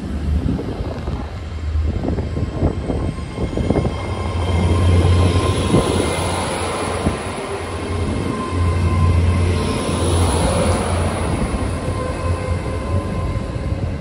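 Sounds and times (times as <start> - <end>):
train diesel engines humming: 0.0 - 14.0
train wheels rumbling and clattering: 0.0 - 14.0.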